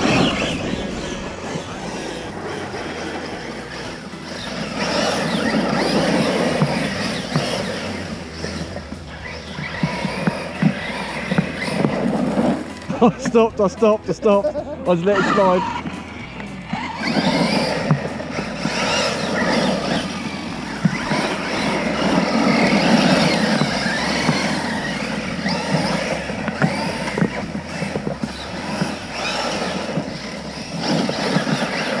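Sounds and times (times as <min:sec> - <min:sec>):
electric motor and gears whining: 0:00.0 - 0:32.0.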